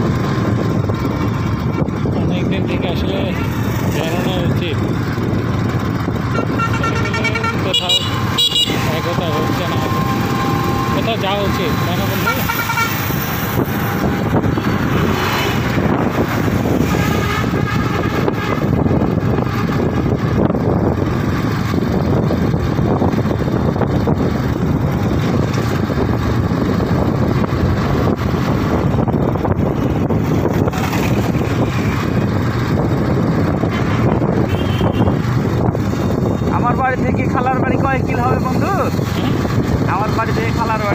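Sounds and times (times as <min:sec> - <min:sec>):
motorcycle engine running: 0:00.0 - 0:40.9
road noise: 0:00.0 - 0:40.9
wind buffeting microphone: 0:00.0 - 0:40.9.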